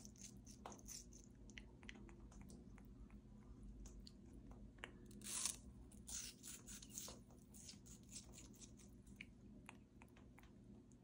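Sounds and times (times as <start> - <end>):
parrot crunching apple: 0.0 - 3.2, 4.0 - 10.5.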